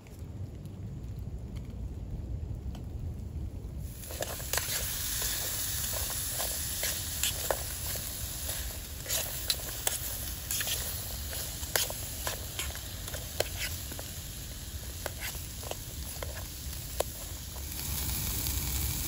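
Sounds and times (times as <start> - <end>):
rain falling: 0.0 - 19.0
steady low rumble: 0.0 - 19.0.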